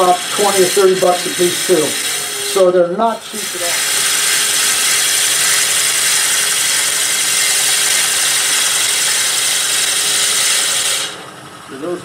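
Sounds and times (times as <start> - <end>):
drill bit boring into spinning wood: 0.0 - 12.0.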